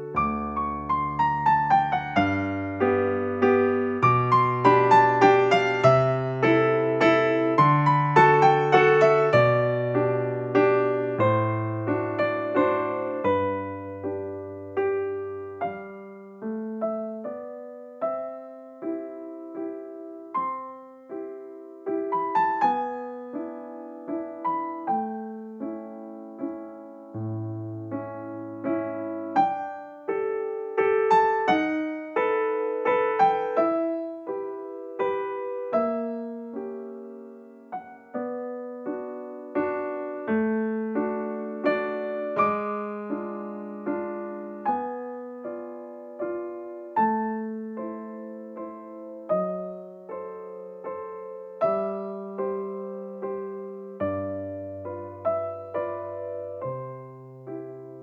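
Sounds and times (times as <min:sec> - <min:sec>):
gentle electric piano tune: 0:00.0 - 0:58.0.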